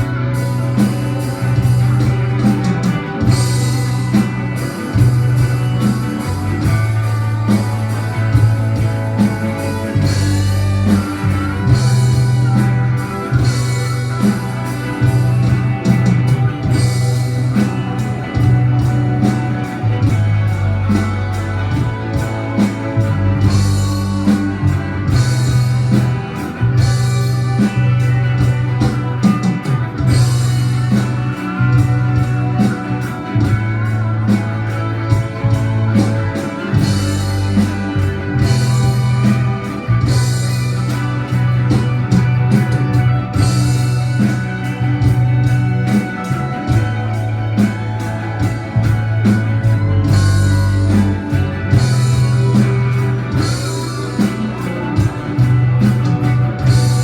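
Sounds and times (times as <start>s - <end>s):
bass and drums: 0.0s - 57.0s
electric guitar solo: 0.0s - 57.0s.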